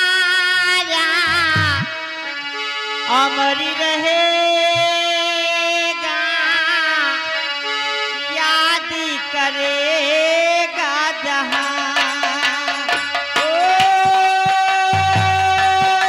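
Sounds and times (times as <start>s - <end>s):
harmonium drone: 0.0s - 16.0s.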